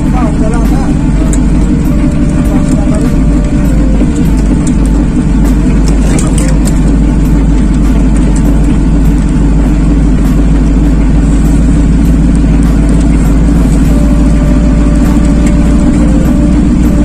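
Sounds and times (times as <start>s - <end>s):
diesel lorry engine running: 0.0s - 17.0s.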